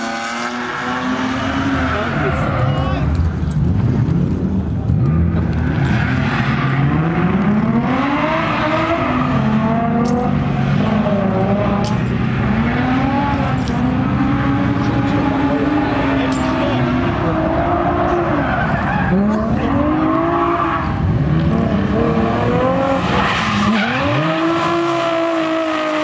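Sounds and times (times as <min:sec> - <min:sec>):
car engine revving hard: 0:00.0 - 0:02.5, 0:05.0 - 0:26.0.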